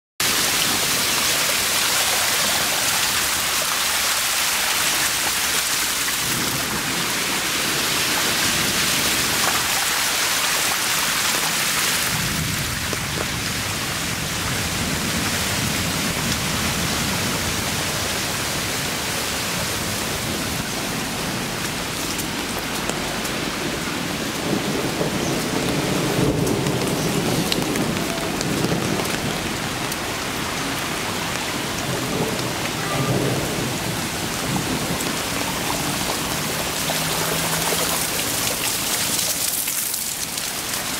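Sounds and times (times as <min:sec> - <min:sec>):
rainwater hissing: 0:00.2 - 0:40.9.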